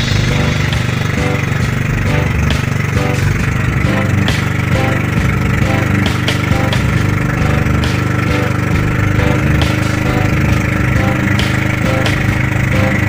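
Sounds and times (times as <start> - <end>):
small boat engine running: 0.0 - 13.0.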